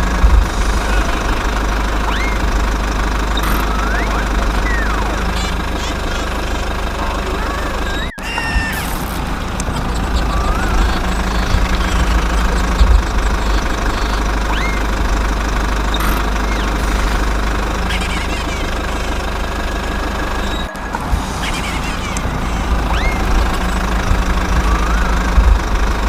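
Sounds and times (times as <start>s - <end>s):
faint bird chirps: 0.0s - 25.9s
engine rumbling: 0.0s - 26.0s.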